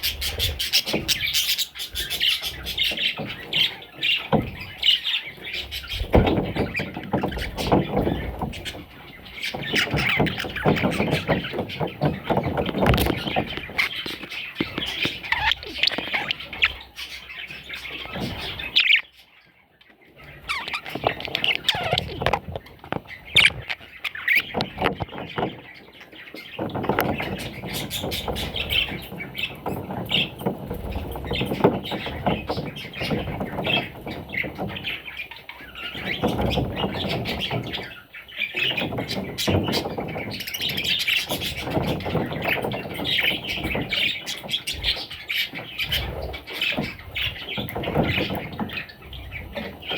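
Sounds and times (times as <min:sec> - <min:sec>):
budgerigars chirping and squawking: 0:00.0 - 0:49.9.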